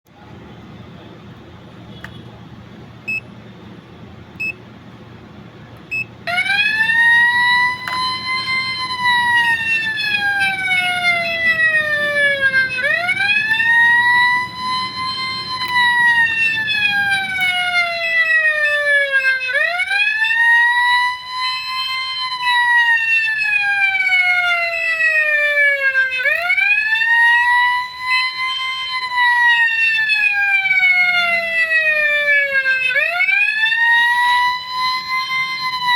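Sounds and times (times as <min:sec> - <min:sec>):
burglar alarm siren wail: 0:06.0 - 0:35.9.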